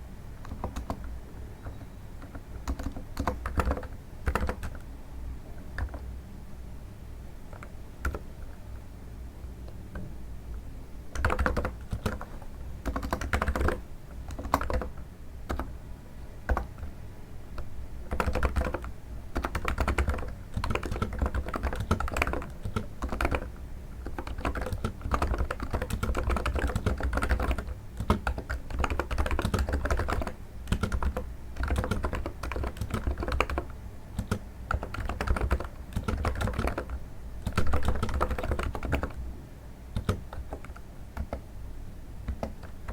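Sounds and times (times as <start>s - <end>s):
soft keyboard keystrokes: 0.4s - 4.9s, 5.6s - 6.1s, 7.5s - 8.9s, 11.1s - 15.7s, 16.5s - 39.2s, 40.0s - 41.5s, 42.2s - 42.9s.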